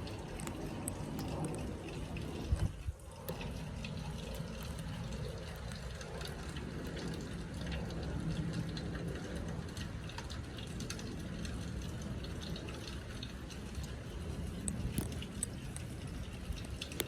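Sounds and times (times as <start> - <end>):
low city rumble: 0.0 - 17.0
small ticks and drips: 0.0 - 17.0.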